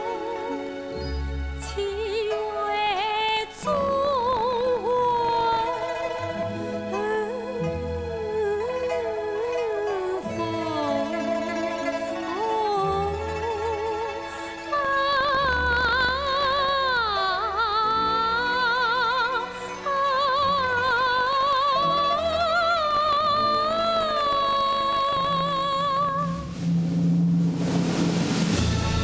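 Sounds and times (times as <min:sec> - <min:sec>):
orchestral accompaniment: 0:00.0 - 0:29.0
woman singing with vibrato: 0:01.6 - 0:06.3, 0:06.9 - 0:11.4, 0:12.2 - 0:26.5.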